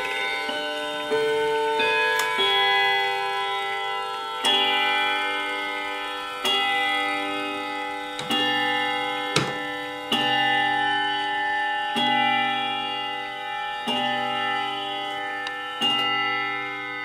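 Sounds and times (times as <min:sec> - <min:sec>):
clock chime striking: 0:00.0 - 0:17.0
clock ticking: 0:00.0 - 0:17.0.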